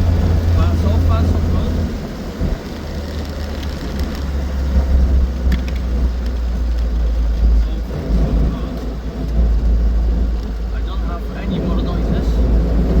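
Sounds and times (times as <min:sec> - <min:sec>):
car engine rumbling: 0:00.0 - 0:13.0
road noise: 0:00.0 - 0:13.0.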